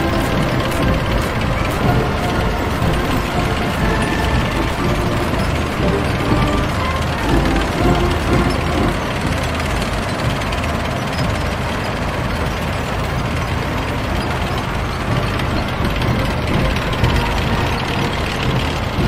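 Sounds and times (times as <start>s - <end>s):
steel tracks clattering: 0.0s - 19.0s
tank engines running: 0.0s - 19.0s.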